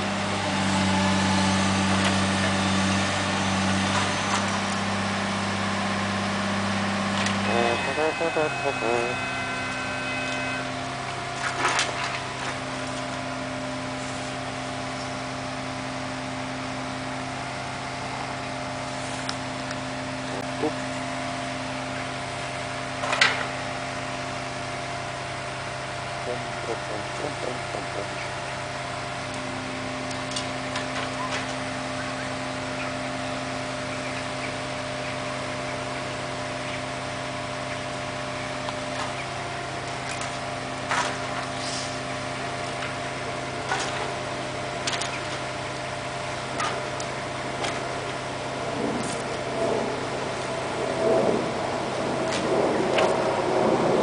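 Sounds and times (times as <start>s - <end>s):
engine idling hum: 0.0s - 54.0s.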